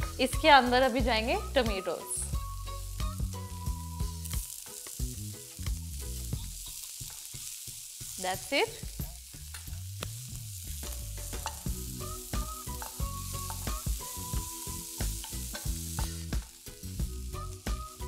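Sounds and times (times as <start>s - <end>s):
soft background music: 0.0s - 18.0s
vegetables sizzling in a frying pan: 0.0s - 18.0s.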